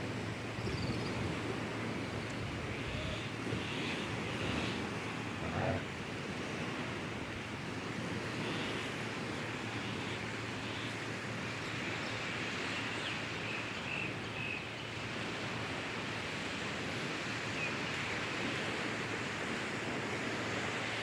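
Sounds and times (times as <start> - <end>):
sea surf: 0.0 - 21.0.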